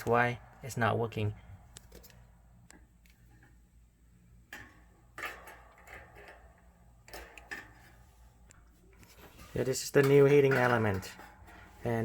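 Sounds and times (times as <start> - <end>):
faint clicks and knocks of parts: 1.2 - 12.0.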